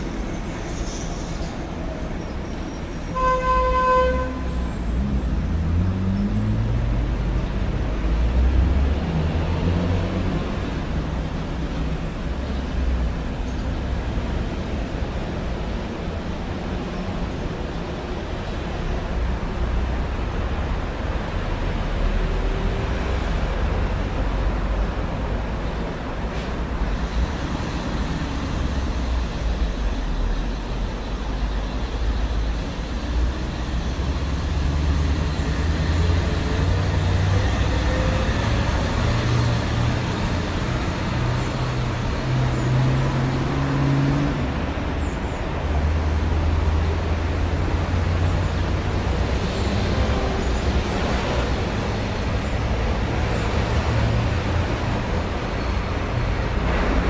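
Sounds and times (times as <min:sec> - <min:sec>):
rumble of road traffic: 0:00.0 - 0:57.0.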